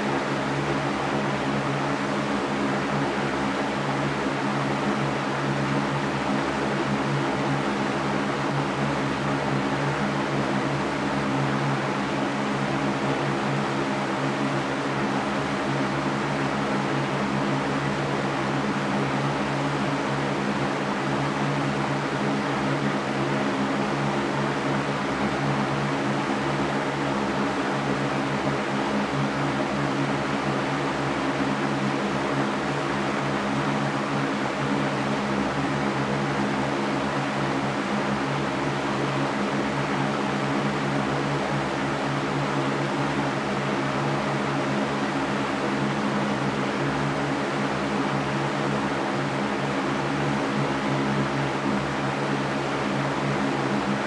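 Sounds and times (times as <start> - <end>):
steady low hum: 0.0 - 54.0
white noise hiss: 0.0 - 54.0.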